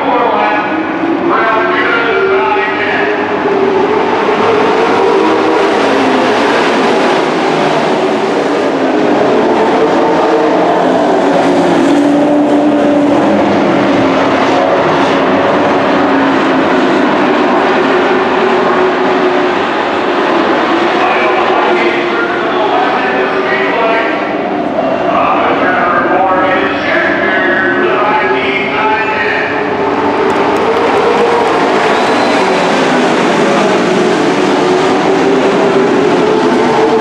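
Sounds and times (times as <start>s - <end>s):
race truck engines racing: 0.0s - 37.0s.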